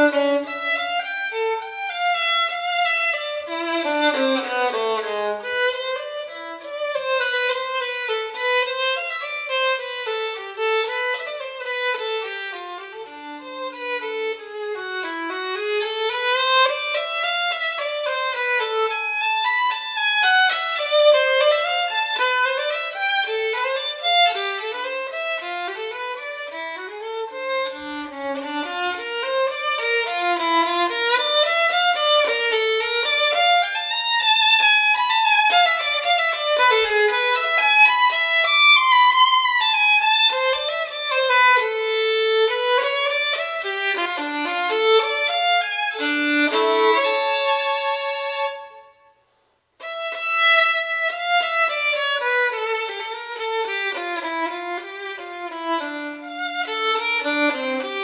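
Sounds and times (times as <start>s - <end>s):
solo violin fast melody: 0.0s - 49.1s, 49.8s - 58.0s.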